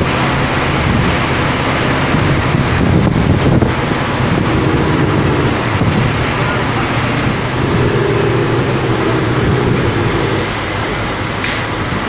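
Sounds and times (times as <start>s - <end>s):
road and wind noise: 0.0s - 12.0s
truck diesel engine drone: 0.0s - 12.0s.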